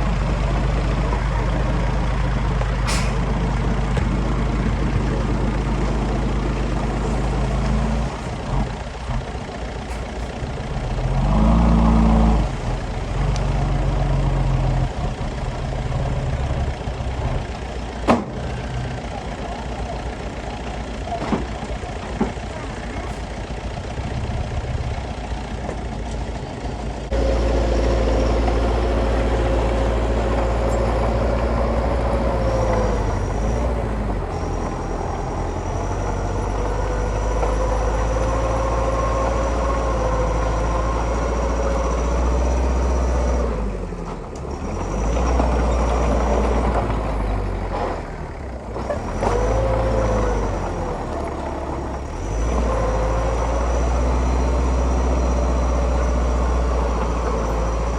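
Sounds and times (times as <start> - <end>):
heavy diesel engine revving: 0.0 - 25.6, 27.1 - 57.9.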